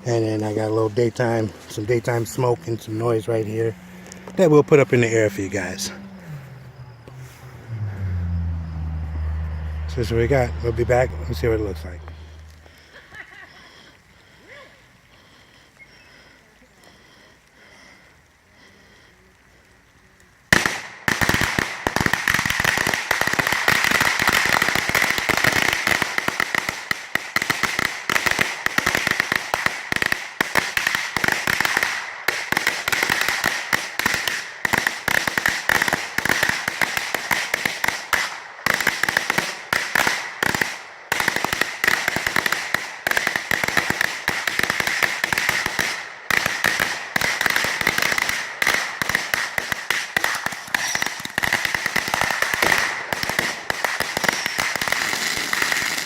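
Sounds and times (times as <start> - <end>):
firecrackers rattling: 0.0 - 56.0.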